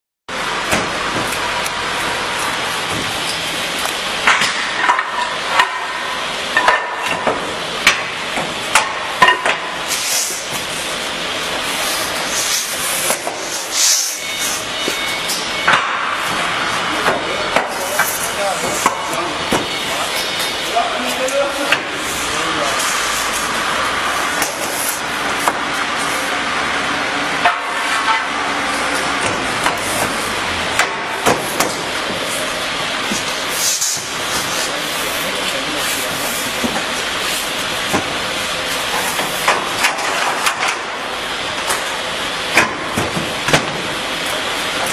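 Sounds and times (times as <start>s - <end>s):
workshop noise: 0.3s - 44.9s.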